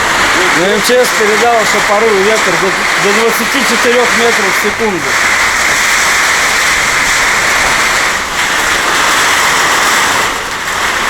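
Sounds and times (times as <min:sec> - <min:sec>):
gusty wind: 0:00.0 - 0:11.0
heavy rain rushing: 0:00.0 - 0:11.0.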